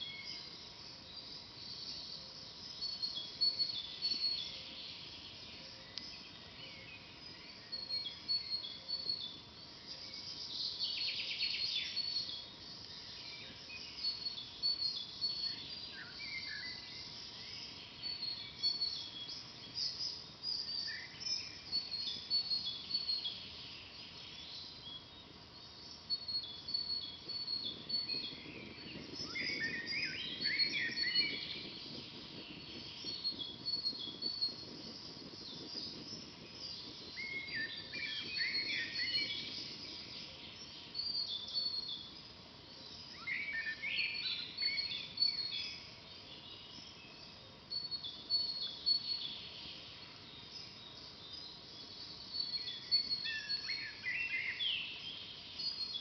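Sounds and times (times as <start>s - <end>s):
songbirds chirping: 0.0s - 56.0s
bird warbling song: 1.6s - 56.0s.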